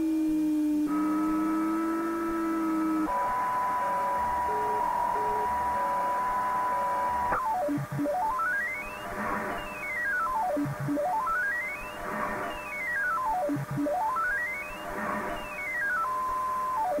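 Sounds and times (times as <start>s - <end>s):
steady electronic tones: 0.8s - 17.0s.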